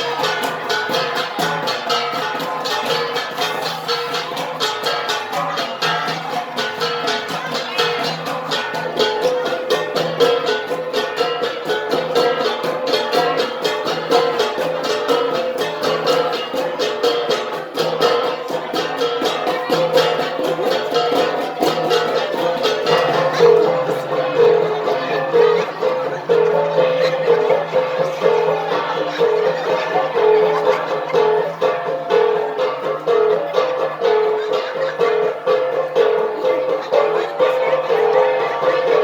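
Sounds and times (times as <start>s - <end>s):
bronze gongs struck in interlocking beat: 0.0s - 39.0s.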